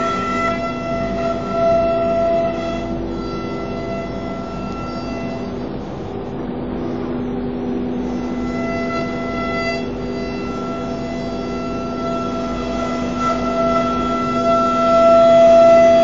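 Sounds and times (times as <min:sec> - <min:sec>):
rough machine noise: 0:00.0 - 0:16.0
router spindle whine: 0:00.0 - 0:16.0.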